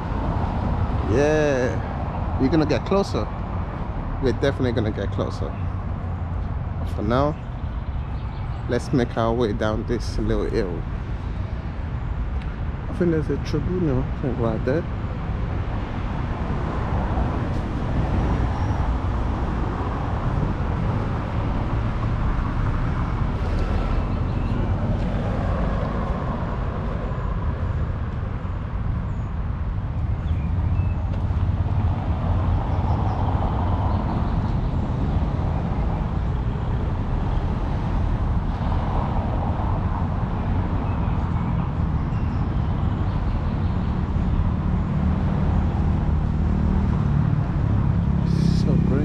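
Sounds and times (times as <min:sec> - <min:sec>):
cars passing: 0:00.0 - 0:49.0
low traffic rumble: 0:00.0 - 0:49.0.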